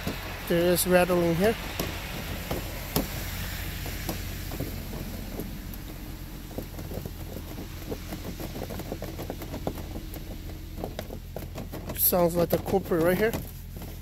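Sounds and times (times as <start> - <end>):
plastic engine cover rattling: 0.0 - 14.0
steady low hum: 0.0 - 14.0.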